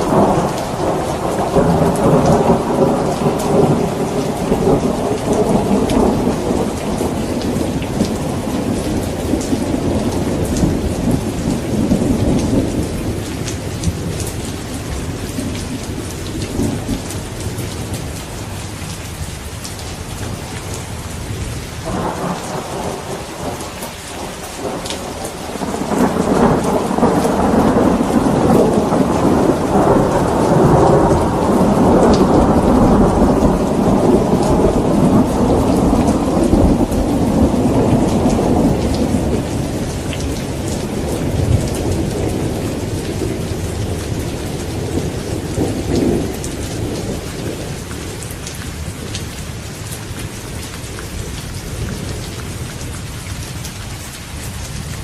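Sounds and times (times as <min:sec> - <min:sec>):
rolling thunder rumble: 0:00.0 - 0:52.6
heavy rain: 0:00.0 - 0:55.0.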